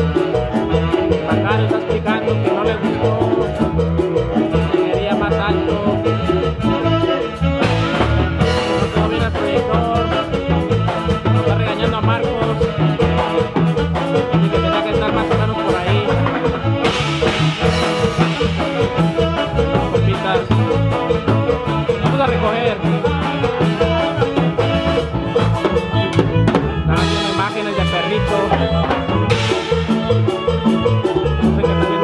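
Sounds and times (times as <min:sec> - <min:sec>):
loud latin dance music: 0:00.0 - 0:32.0.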